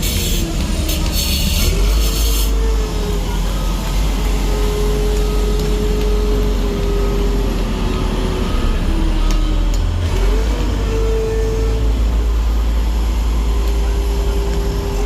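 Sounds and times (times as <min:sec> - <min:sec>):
paving machine engine rumble: 0:00.0 - 0:15.0.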